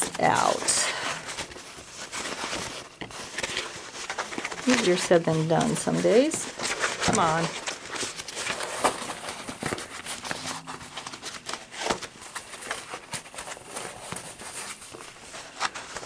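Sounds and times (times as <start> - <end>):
fabric bag rustling: 0.0 - 16.0.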